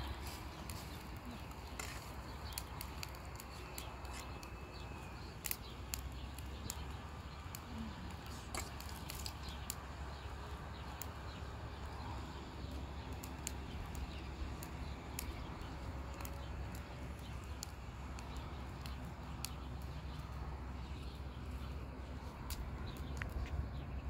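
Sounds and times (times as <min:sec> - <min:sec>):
low rumble of burning: 0:00.0 - 0:24.0
wood fire crackling and popping: 0:00.0 - 0:24.0.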